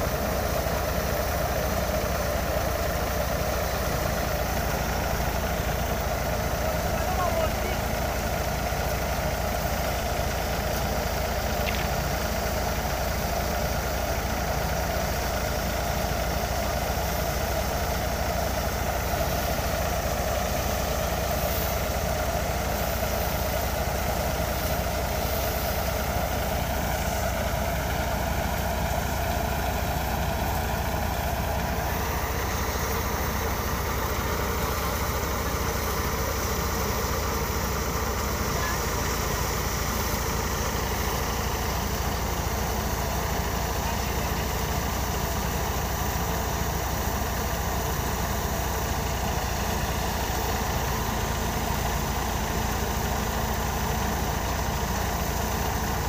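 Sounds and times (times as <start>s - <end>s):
threshing machinery drone: 0.0s - 56.0s
tractor diesel engine running: 0.0s - 56.0s.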